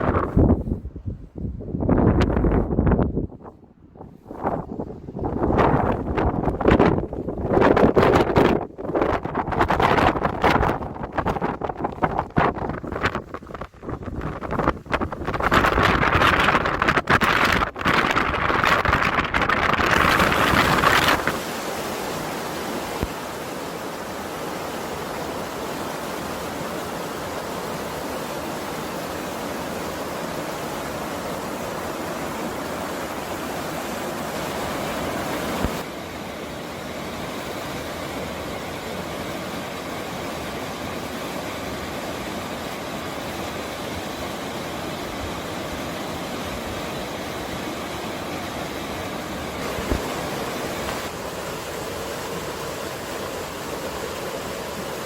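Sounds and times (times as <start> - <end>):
running water in a stream: 4.4 - 55.0.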